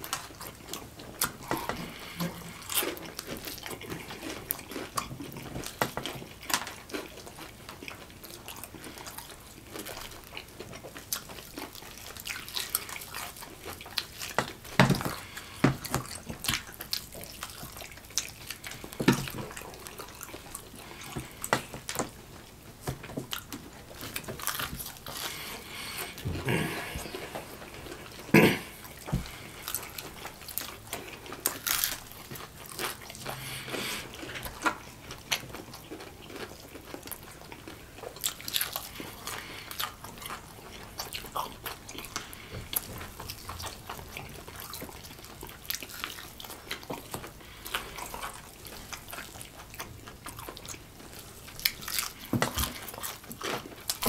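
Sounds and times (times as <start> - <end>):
chewing crispy fried chicken: 0.0 - 54.0.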